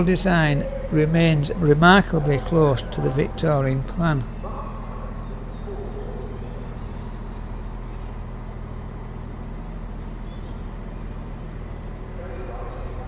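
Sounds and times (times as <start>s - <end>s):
train engine idling: 0.0s - 13.0s.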